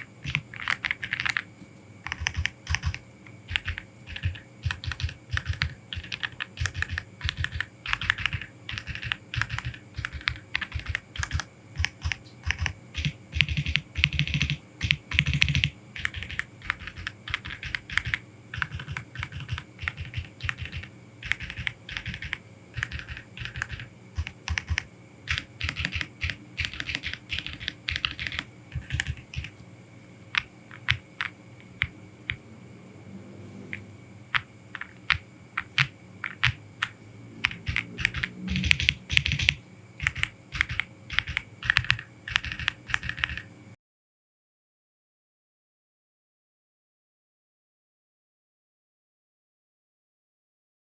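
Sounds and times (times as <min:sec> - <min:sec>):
mechanical keyboard typing: 0:00.0 - 0:29.6, 0:30.3 - 0:32.4, 0:33.7 - 0:43.5.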